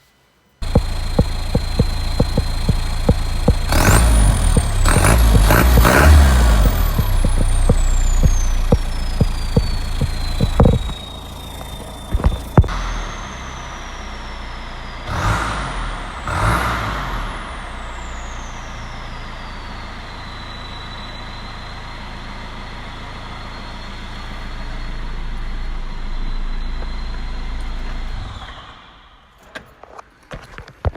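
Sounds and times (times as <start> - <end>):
diesel engine running: 0.6 - 28.6
turbo whistle: 0.6 - 29.0.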